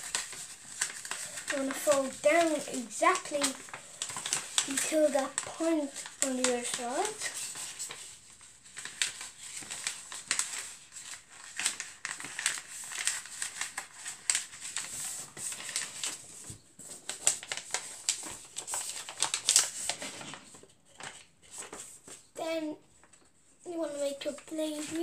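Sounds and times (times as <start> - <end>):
paper crinkling and rustling: 0.0 - 25.0.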